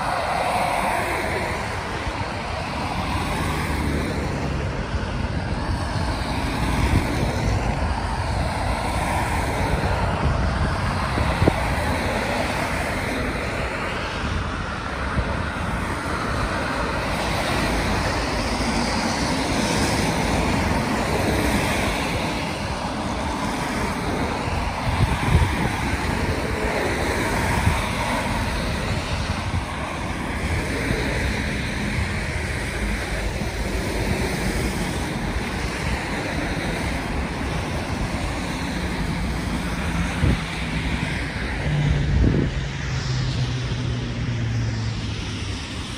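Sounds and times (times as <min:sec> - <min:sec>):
car tyres hissing on wet road: 0:00.0 - 0:41.9
wind rumble on microphone: 0:00.0 - 0:45.9.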